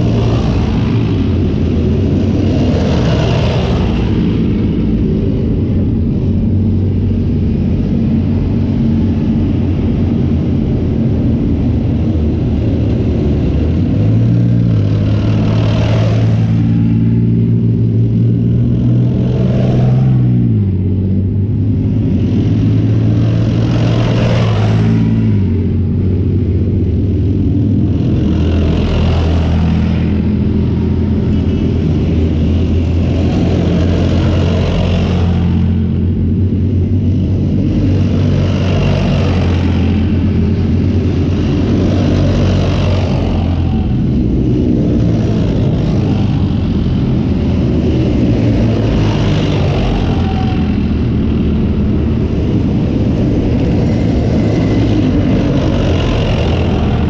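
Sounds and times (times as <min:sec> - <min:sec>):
tank engines droning: 0:00.0 - 0:57.0.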